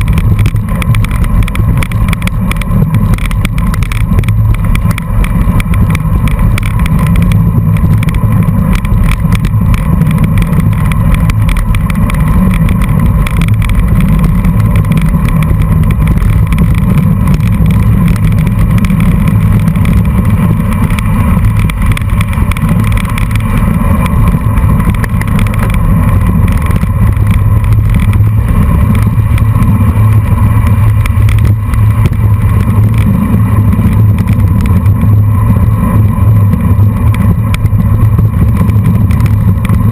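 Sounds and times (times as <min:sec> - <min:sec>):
bike tyres rolling on dirt: 0:00.0 - 0:39.9
wind rumble on microphone: 0:00.0 - 0:39.9.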